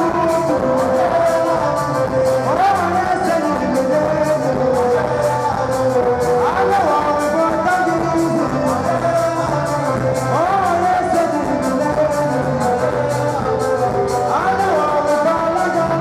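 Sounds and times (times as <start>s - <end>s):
loud music over loudspeakers: 0.0s - 16.0s.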